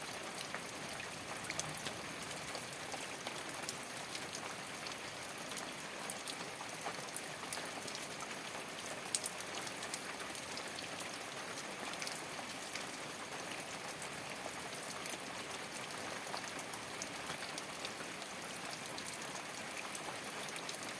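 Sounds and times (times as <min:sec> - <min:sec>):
rain on a straw roof: 0:00.0 - 0:20.9.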